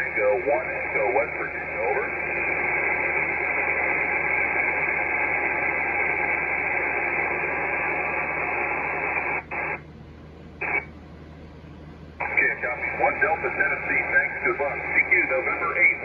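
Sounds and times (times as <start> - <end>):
radio static hiss: 0.0 - 9.8, 10.6 - 10.9, 12.2 - 16.0.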